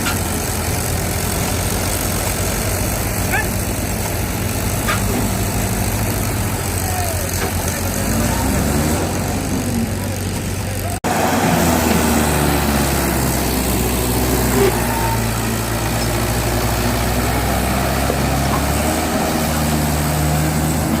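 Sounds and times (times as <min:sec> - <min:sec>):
diesel tractor engine running: 0:00.0 - 0:21.0.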